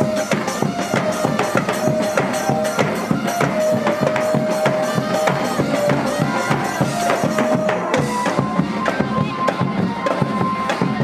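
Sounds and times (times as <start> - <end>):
fast drum beats: 0.0 - 11.0
held melody line: 0.0 - 11.0.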